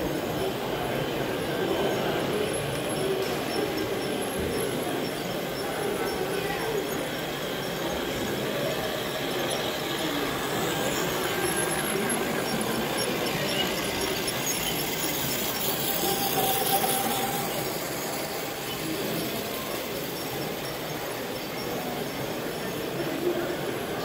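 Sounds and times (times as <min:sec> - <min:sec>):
toy trains running on track: 0:00.0 - 0:24.0.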